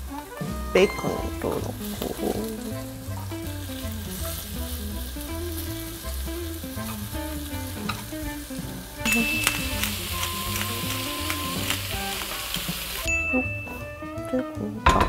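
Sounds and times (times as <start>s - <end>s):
bacon and vegetables sizzling: 0.0s - 14.8s.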